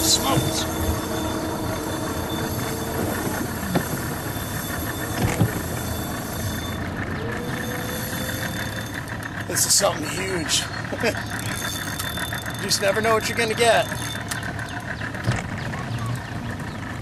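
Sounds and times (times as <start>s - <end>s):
outboard motor running: 0.0s - 17.0s
water noise around boat: 0.0s - 17.0s
wind: 0.0s - 17.0s.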